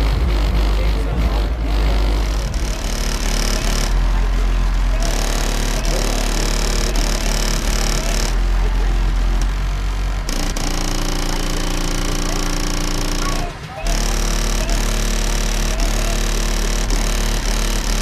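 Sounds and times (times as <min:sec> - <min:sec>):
loud deep subwoofer bass: 0:00.0 - 0:18.0.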